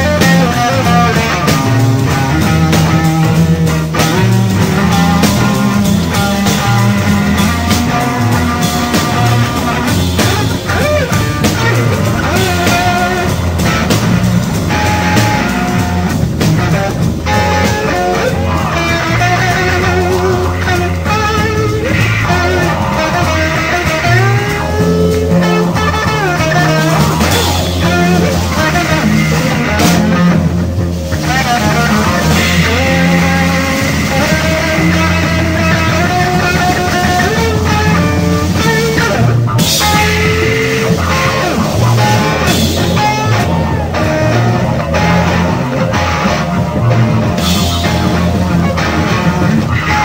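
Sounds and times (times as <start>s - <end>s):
rock band playing instrumental: 0.0s - 50.0s.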